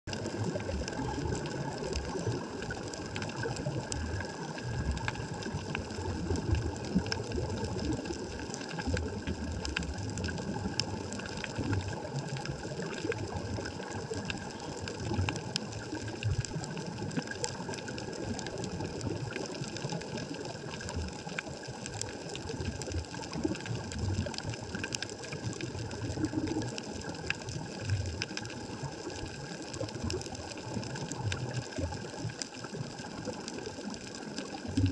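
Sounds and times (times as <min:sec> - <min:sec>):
faint underwater clicks and crackles: 0:00.0 - 0:34.9
low rumble of water movement: 0:00.0 - 0:34.9.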